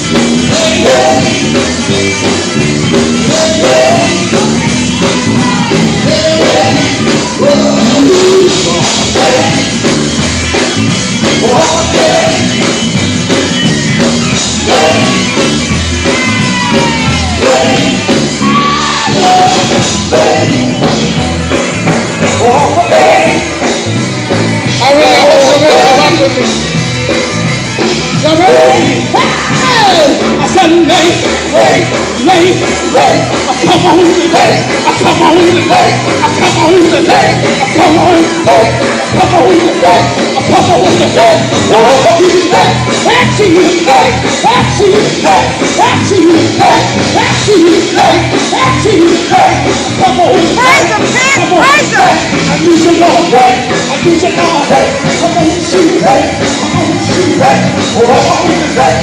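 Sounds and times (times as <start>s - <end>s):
vocal group singing gospel: 0.0s - 24.0s, 24.7s - 26.6s, 28.1s - 59.0s
band playing: 0.0s - 59.0s
bass line: 0.0s - 59.0s.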